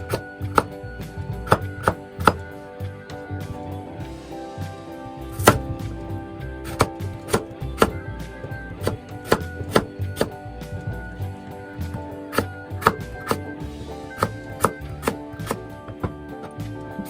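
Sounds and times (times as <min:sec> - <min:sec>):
instrumental music: 0:00.0 - 0:17.0.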